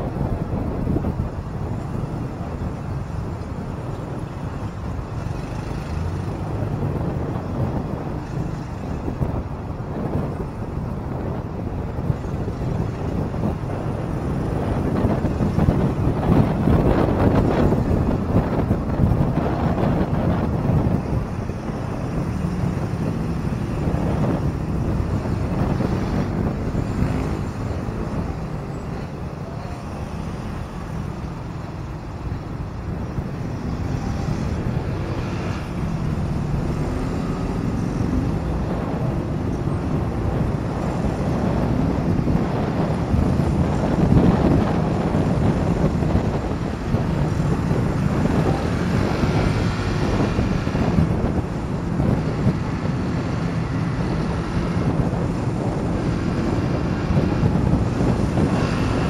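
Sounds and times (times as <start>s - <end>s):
road traffic hum: 0.0s - 59.0s
wind on microphone: 0.0s - 59.0s.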